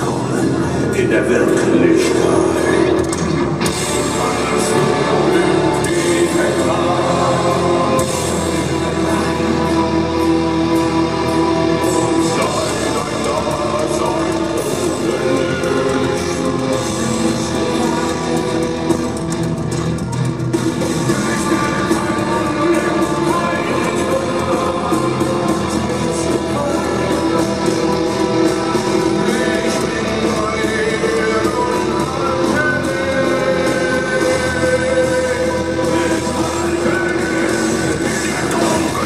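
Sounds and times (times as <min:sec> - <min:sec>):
rock music with singing and guitar: 0:00.0 - 0:39.0.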